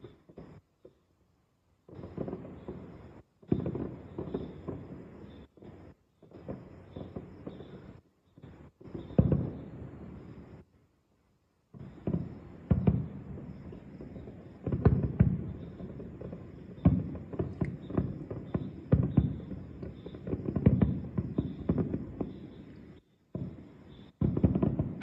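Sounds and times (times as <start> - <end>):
fireworks bursting: 1.8 - 10.6, 11.7 - 25.0.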